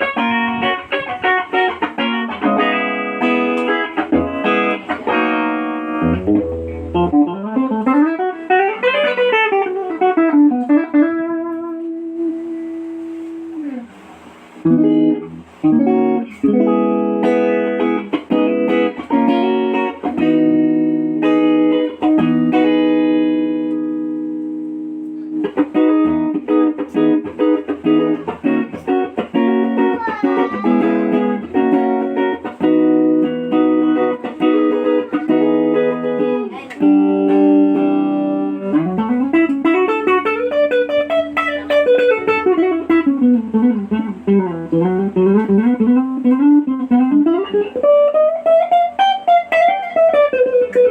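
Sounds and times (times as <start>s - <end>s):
electric guitar playing: 0.0s - 50.9s.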